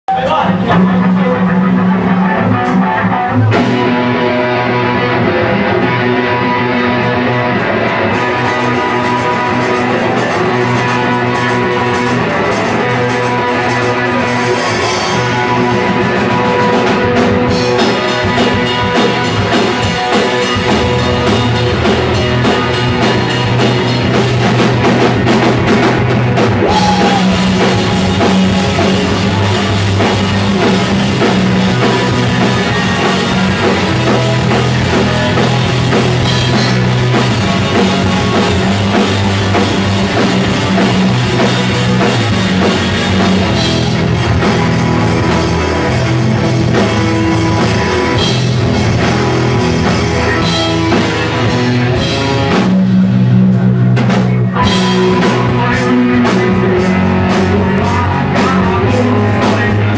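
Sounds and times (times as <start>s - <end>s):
electric guitars: 0.1s - 59.9s
live rock band playing: 0.1s - 59.9s
drum kit with cymbals: 8.2s - 59.9s.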